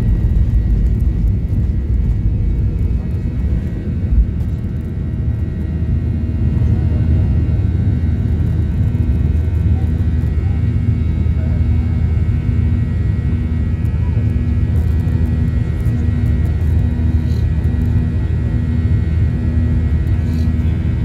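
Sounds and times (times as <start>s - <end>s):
jet engine rumble: 0.0s - 21.0s
jet engine whine: 0.0s - 21.0s.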